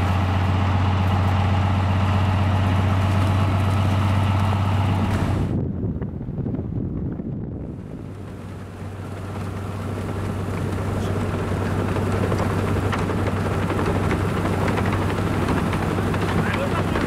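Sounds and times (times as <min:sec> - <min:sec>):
locomotive engine hum: 0:00.0 - 0:17.0.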